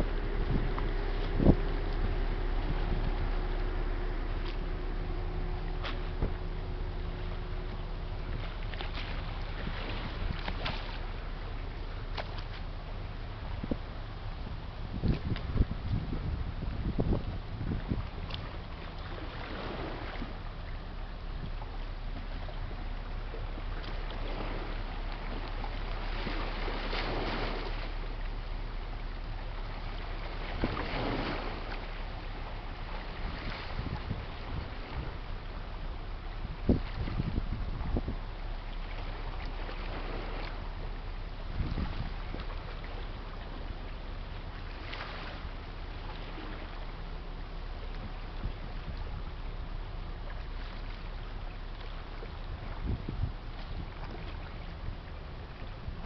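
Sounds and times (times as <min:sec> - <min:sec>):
ship low rumble: 0:00.0 - 0:56.0
water and air noise: 0:00.0 - 0:56.0.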